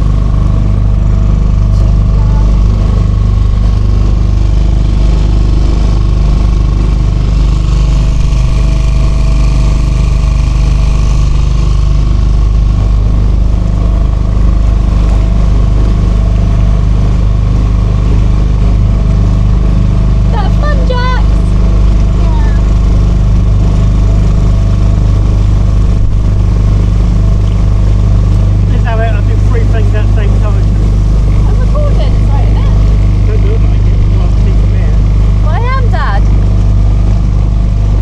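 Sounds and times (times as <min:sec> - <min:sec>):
motorboat engine droning: 0:00.0 - 0:38.0.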